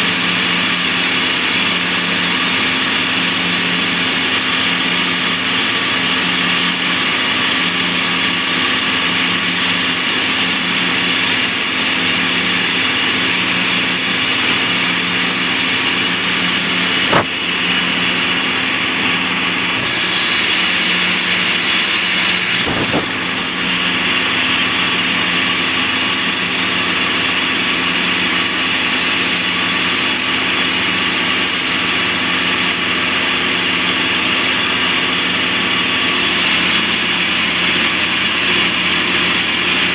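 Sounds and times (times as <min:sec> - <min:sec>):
drill rig running: 0:00.0 - 0:39.9.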